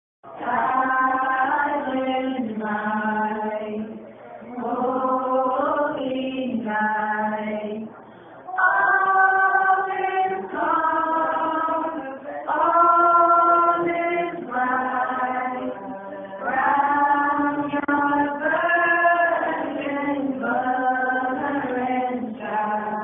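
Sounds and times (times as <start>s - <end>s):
group singing carol without instruments: 0.2s - 23.0s.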